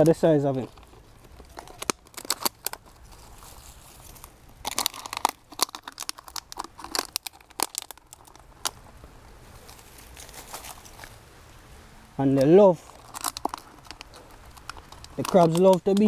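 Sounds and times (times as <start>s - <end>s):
dry leaves crunching and crinkling: 0.0s - 11.2s, 12.2s - 16.0s.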